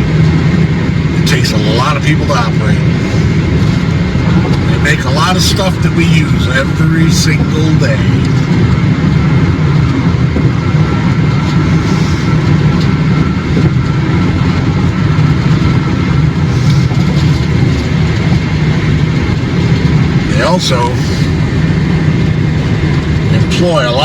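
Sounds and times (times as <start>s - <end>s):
car cabin highway rumble: 0.0s - 24.0s.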